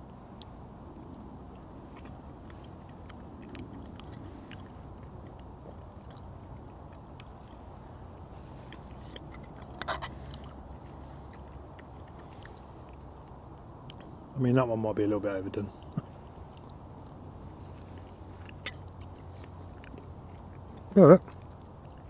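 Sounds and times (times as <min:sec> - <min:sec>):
man chewing food: 0:00.0 - 0:14.3, 0:15.7 - 0:22.0
low background hiss: 0:00.0 - 0:22.0.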